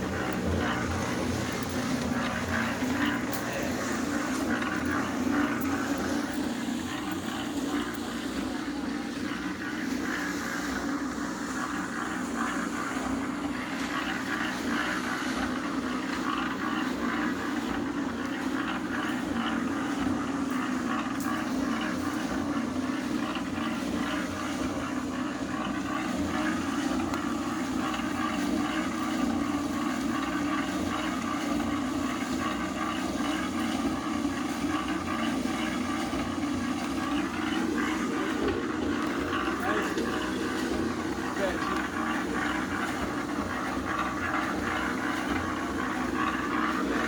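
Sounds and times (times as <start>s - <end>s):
steady motor drone: 0.0s - 47.0s.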